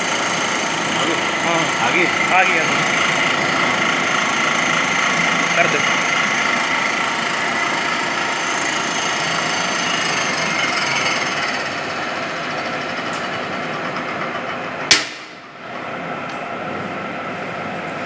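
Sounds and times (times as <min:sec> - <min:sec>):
grinding machine hiss and whine: 0:00.0 - 0:18.0.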